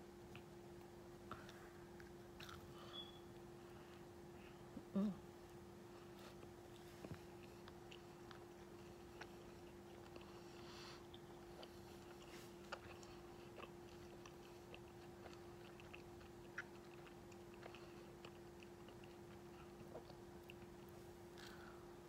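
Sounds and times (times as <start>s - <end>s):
chewing marshmallow candy: 0.3s - 4.1s, 6.0s - 21.7s.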